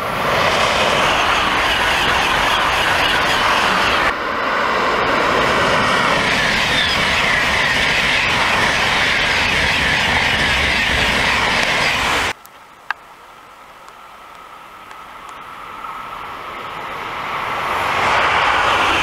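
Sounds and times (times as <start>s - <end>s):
high-speed train passing: 0.0s - 12.4s, 13.2s - 19.0s.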